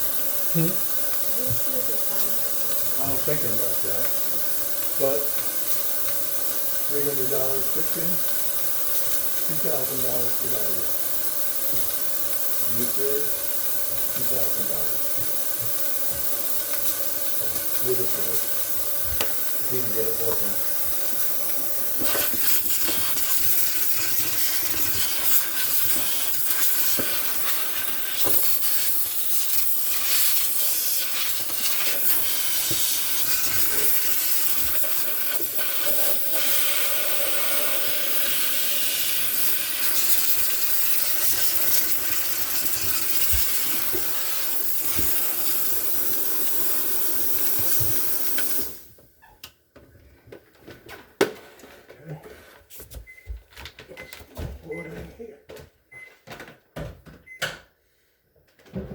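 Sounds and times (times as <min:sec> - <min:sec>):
steam hissing: 0:00.0 - 0:49.0.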